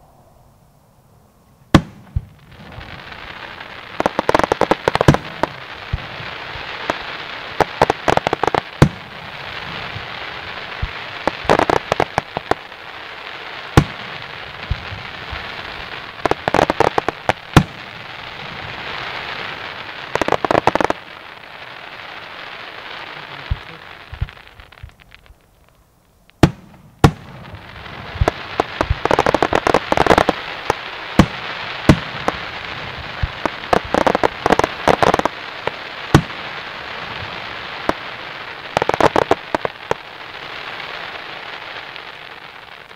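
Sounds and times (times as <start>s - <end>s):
fireworks crackling: 1.7s - 42.9s
fireworks pops and bangs: 1.7s - 42.9s.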